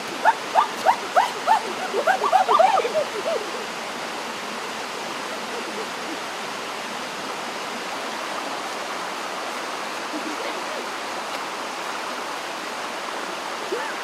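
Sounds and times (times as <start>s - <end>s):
stream water over rocks: 0.0s - 14.0s.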